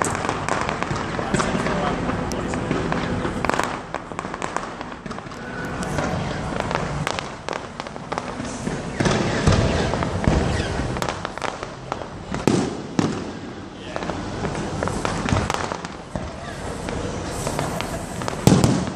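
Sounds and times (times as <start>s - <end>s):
fireworks popping and banging: 0.0s - 18.9s.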